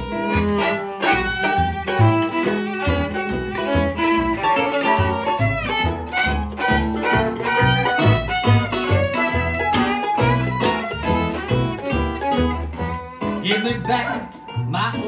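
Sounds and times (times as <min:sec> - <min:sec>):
fiddle playing lively melody: 0:00.0 - 0:15.0
guitar accompaniment: 0:00.0 - 0:15.0
steady bass notes: 0:00.0 - 0:15.0.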